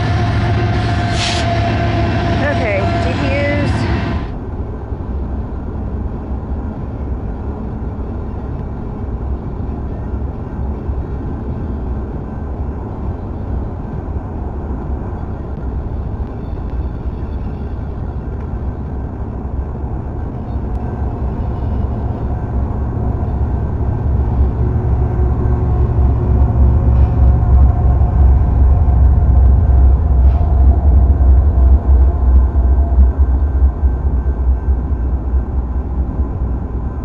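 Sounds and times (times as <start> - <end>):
low vehicle rumble: 0.0 - 37.0.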